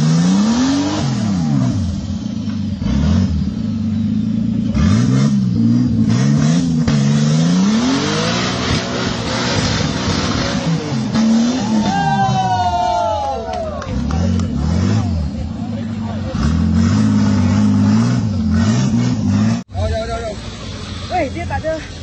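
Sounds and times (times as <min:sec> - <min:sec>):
engine revving: 0:00.0 - 0:12.5, 0:13.8 - 0:21.6.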